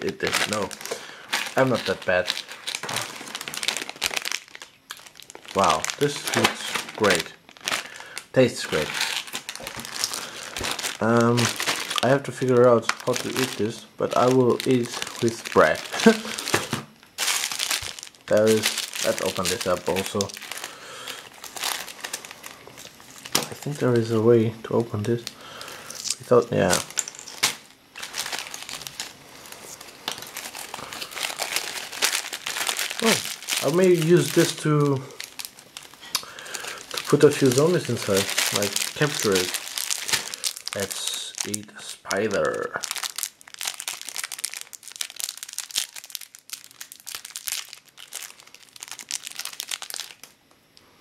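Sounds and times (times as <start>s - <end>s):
plastic packaging crinkling: 0.0s - 50.5s.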